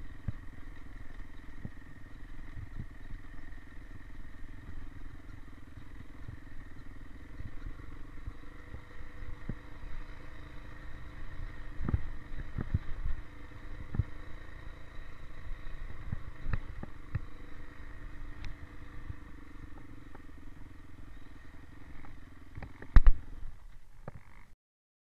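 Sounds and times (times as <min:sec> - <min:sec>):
dirt bike engine running: 0:00.0 - 0:24.6.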